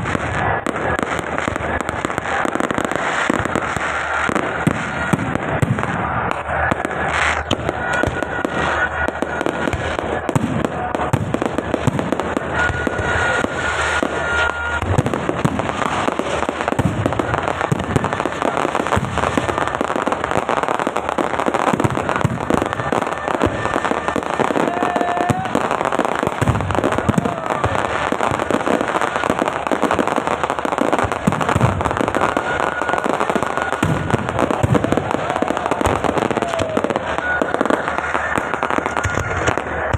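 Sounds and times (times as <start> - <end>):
firecrackers crackling: 0.0 - 39.9
thin firework whistles: 0.0 - 39.9.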